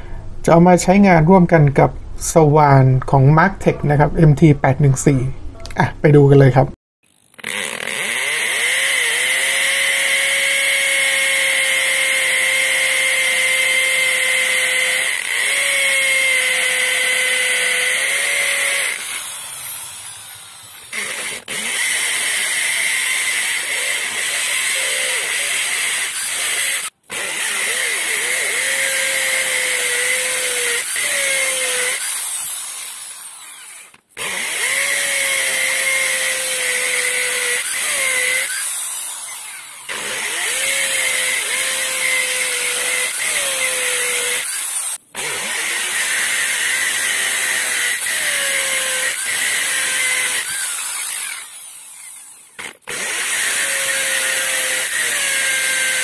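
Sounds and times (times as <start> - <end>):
hammer drill boring into concrete: 7.0 - 56.0.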